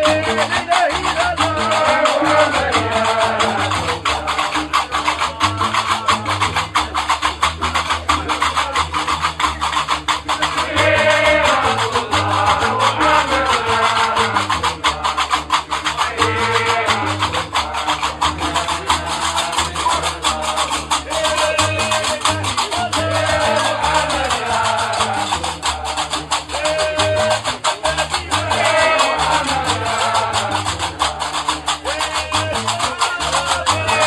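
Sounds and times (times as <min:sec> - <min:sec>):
chanted vocal phrases: 0:00.0 - 0:07.1, 0:08.3 - 0:34.0
iron castanets clattering: 0:00.0 - 0:34.0
plucked bass lute: 0:00.0 - 0:34.0.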